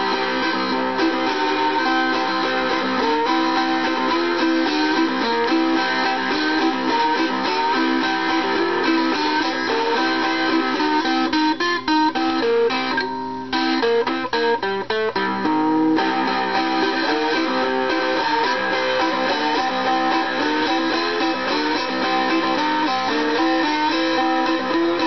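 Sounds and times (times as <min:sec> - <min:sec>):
blues riff on cigar box guitar: 0:00.0 - 0:25.0.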